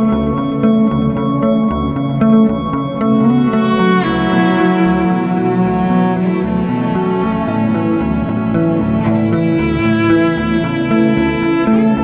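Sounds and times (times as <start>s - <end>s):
bowed string music: 0.0s - 12.0s.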